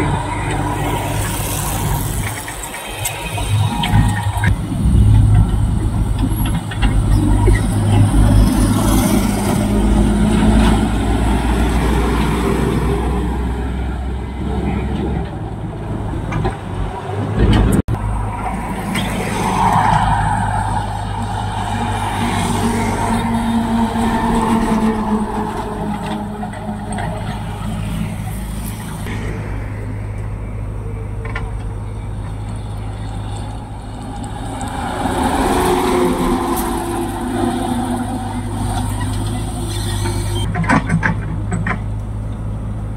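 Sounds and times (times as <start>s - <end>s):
trucks driving past: 0.0s - 42.9s.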